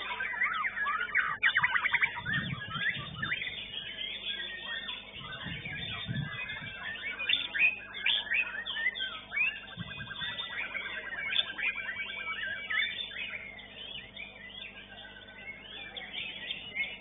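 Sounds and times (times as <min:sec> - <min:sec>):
songbird chirps and trills: 0:00.0 - 0:17.0.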